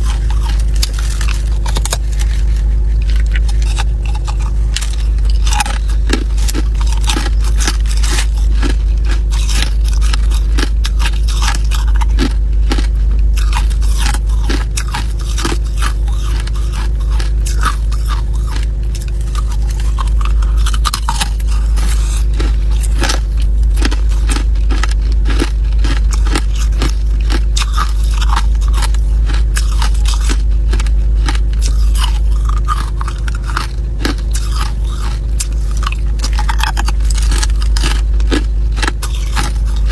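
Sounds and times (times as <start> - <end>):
ice crunching while chewed: 0.0 - 39.9
steady low hum: 0.0 - 39.9.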